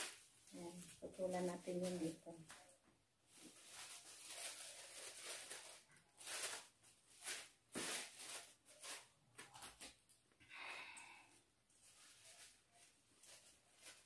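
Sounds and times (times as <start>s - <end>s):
wrapping material rustling: 0.0s - 10.1s, 11.3s - 14.0s.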